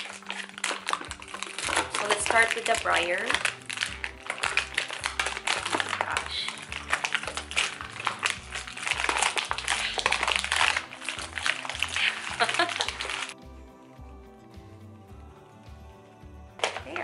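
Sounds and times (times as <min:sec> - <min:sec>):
plastic packaging crinkling: 0:00.0 - 0:13.4, 0:16.6 - 0:17.0
background music with bass line: 0:00.0 - 0:17.0.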